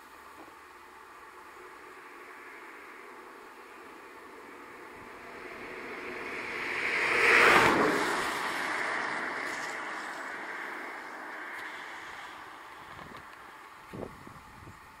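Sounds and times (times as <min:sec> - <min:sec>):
vehicle passing by: 0:00.8 - 0:14.1.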